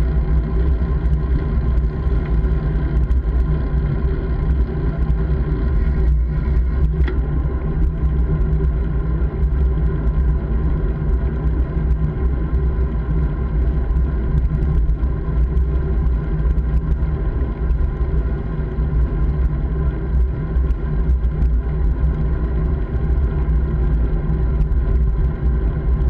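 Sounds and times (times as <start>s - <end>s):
bike road noise: 0.0s - 26.0s
small clicks and rattles: 0.0s - 26.0s
wind rumble: 0.0s - 26.0s.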